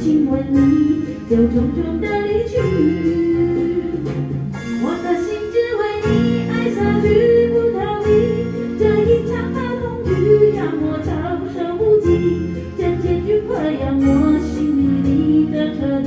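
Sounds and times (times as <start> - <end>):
backing music: 0.0 - 16.0
woman singing pop ballad: 0.0 - 16.0.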